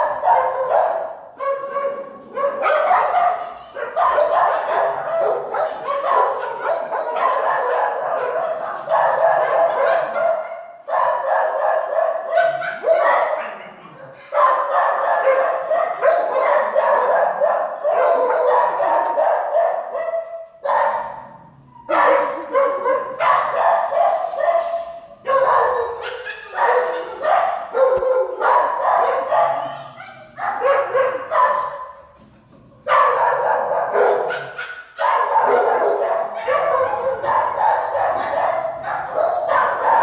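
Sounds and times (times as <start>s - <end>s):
many dogs barking: 0.0s - 32.2s, 32.8s - 40.0s.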